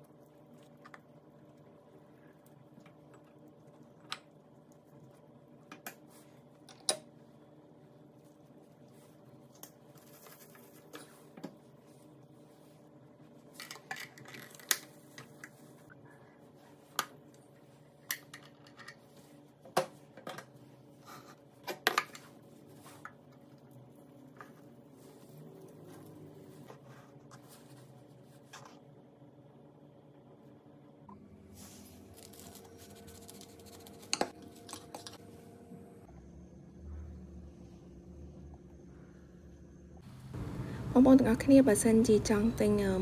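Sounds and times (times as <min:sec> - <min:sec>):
faint hum: 0:00.0 - 0:43.0.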